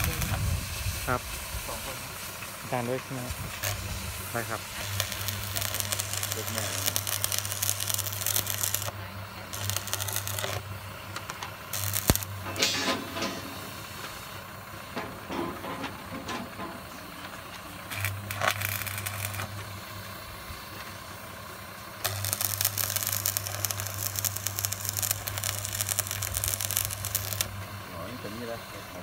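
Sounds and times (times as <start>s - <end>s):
welding arc crackling sizzle: 0.0s - 29.0s.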